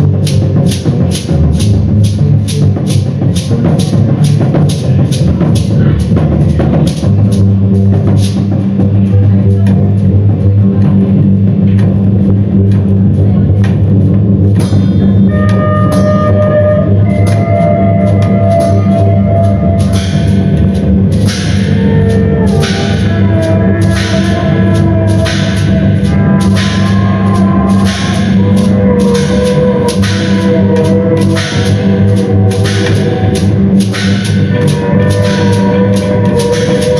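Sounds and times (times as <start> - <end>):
drum strikes: 0.0 - 36.9
low steady drone: 0.0 - 36.9
gliding pitched tones: 3.5 - 36.9.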